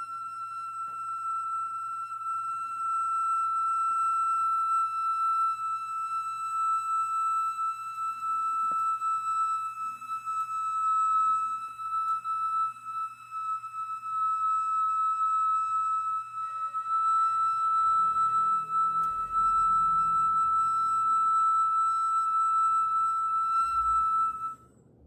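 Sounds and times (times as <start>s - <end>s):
stone flute long high note: 0.0s - 25.0s.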